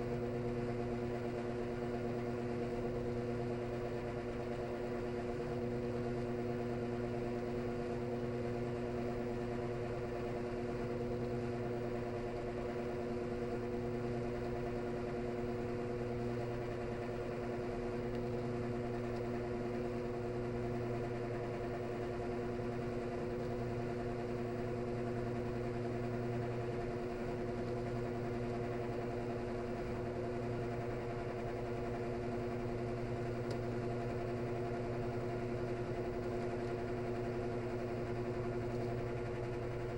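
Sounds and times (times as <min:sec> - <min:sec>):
washing machine drain droning: 0:00.1 - 0:39.9.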